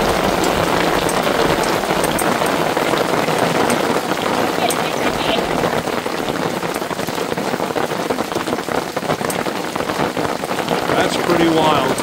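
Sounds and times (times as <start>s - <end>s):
hail pelting fabric awning: 0.0s - 12.0s.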